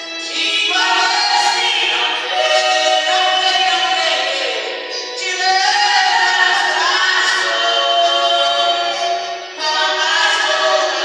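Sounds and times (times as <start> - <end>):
women singing gospel: 0.0 - 11.0.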